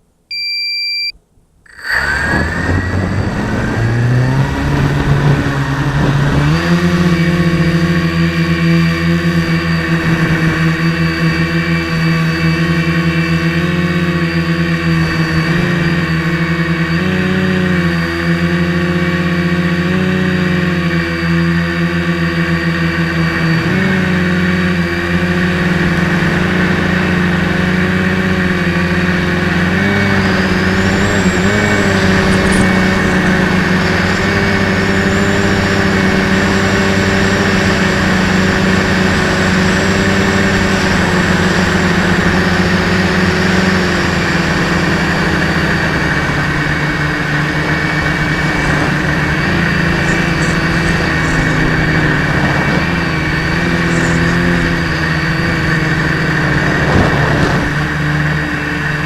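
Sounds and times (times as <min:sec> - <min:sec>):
quadcopter propellers buzzing: 0:01.7 - 0:59.0.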